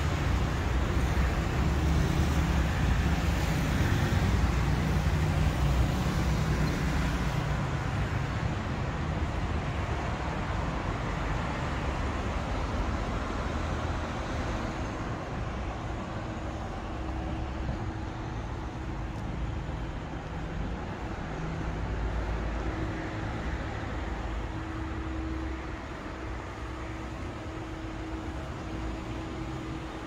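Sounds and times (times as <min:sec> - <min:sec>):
road noise rushing: 0:00.0 - 0:30.0.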